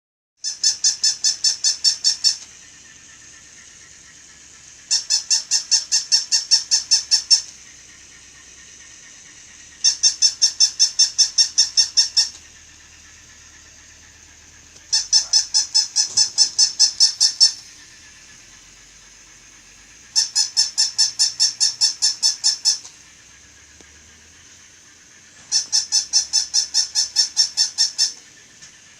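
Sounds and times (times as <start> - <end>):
toy dog yapping: 0.4 - 18.2, 19.9 - 23.7, 25.1 - 28.9.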